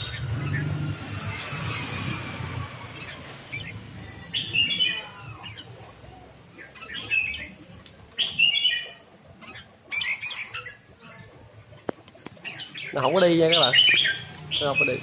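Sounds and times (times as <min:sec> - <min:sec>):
bird warbling song: 0:00.0 - 0:15.0.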